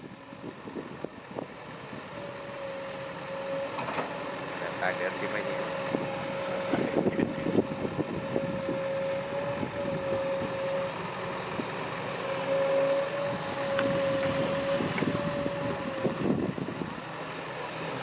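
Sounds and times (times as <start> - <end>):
diesel machinery engine drone: 0.0 - 18.0.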